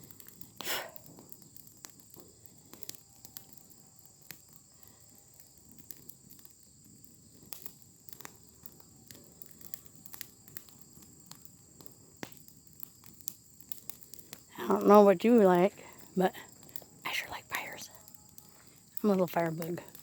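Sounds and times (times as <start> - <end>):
bonfire crackling and popping: 0.0 - 20.0
insects chirring: 0.0 - 20.0.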